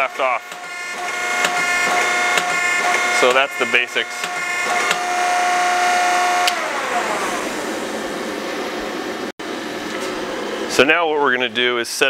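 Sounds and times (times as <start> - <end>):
electric pump motor whining: 0.0 - 10.8.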